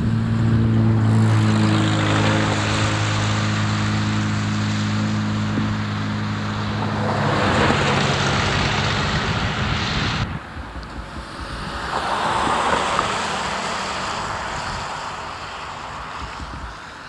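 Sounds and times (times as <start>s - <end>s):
engine running: 0.0s - 17.0s
wind buffeting microphone: 0.0s - 17.0s.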